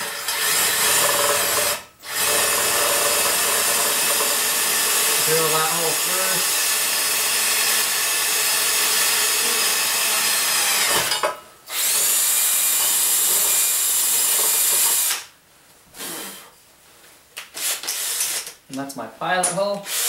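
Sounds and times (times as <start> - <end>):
electric drill running: 0.0 - 15.2, 17.6 - 18.6.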